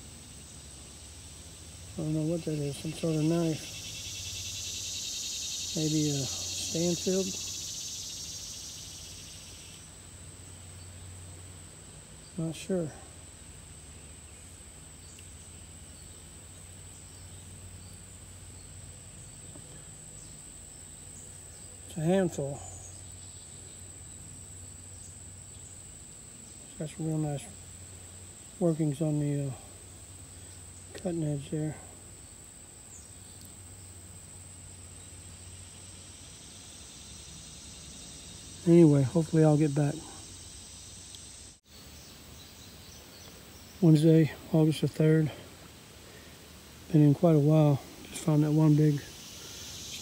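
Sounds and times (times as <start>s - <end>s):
insects chorus: 0.0s - 50.0s.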